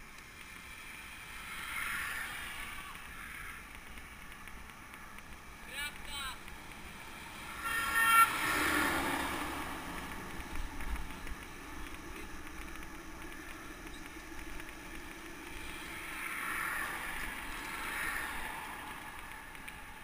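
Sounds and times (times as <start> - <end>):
cars passing: 0.0 - 20.0
low riding noise: 0.0 - 20.0.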